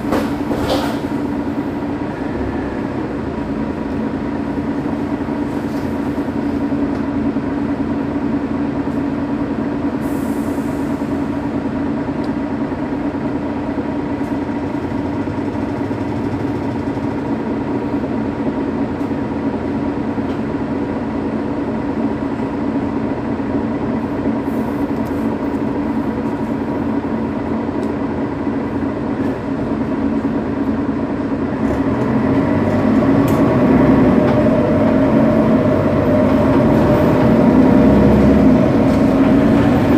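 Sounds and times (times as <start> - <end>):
diesel bus engine idling: 0.0 - 39.9.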